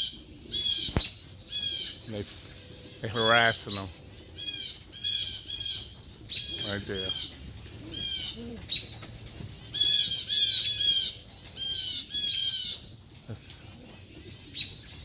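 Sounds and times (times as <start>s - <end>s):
birds harsh alarm calls: 0.0s - 15.0s.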